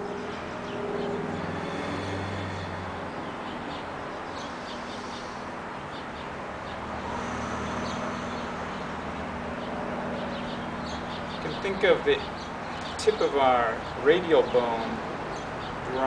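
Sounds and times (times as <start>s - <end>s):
outdoor rumble and low hum: 0.0s - 16.0s.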